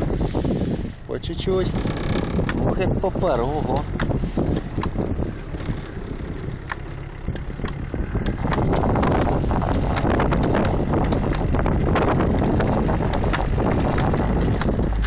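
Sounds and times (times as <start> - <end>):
tyre with snow chains churning snow: 0.0 - 15.0.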